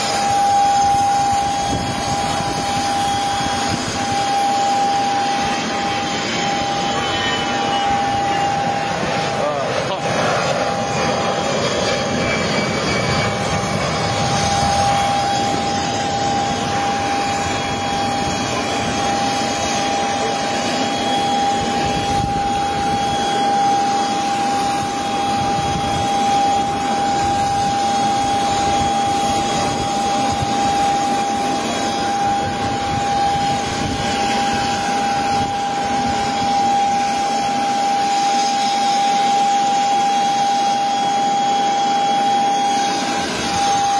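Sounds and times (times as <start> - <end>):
jet engine whining: 0.0 - 43.9.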